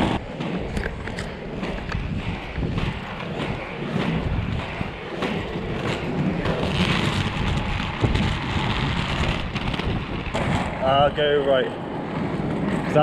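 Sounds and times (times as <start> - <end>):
skate wheels rolling on asphalt: 0.0 - 13.0
wind noise on microphone: 0.0 - 13.0.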